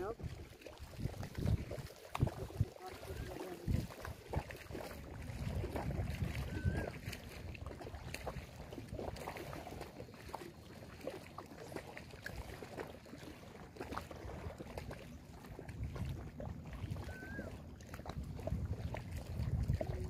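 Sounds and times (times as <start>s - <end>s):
small waves lapping on shore: 0.0s - 20.0s.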